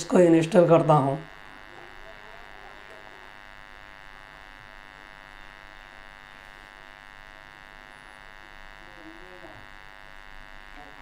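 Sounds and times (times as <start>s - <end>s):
faint electrical buzz: 0.0s - 11.0s.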